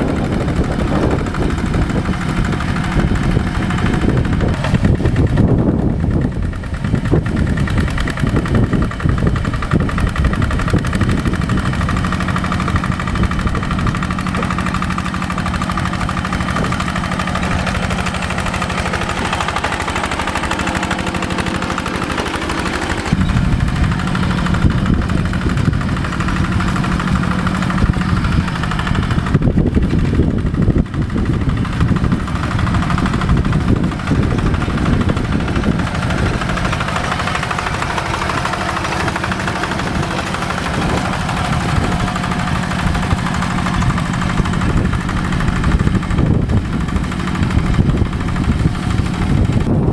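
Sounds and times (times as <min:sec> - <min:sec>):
tractor diesel engine chugging: 0:00.0 - 0:49.9.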